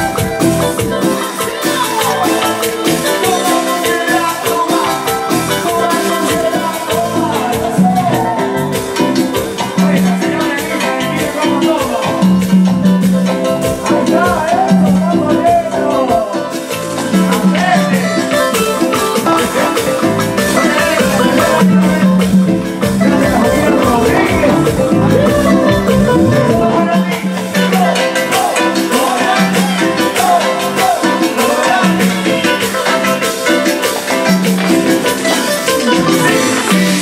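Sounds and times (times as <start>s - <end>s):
electric guitar: 0.0s - 37.0s
keyboard: 0.0s - 37.0s
live band playing latin dance music: 0.0s - 37.0s
shaken percussion: 0.0s - 37.0s.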